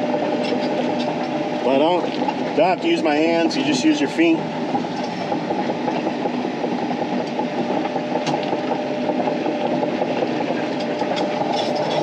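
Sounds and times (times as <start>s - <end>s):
excavator diesel engine running: 0.0s - 12.0s
steel tracks clattering: 0.0s - 12.0s.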